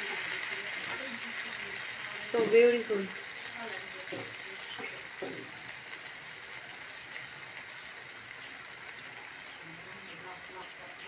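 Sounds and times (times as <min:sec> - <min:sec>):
batter sizzling in oil: 0:00.0 - 0:11.0.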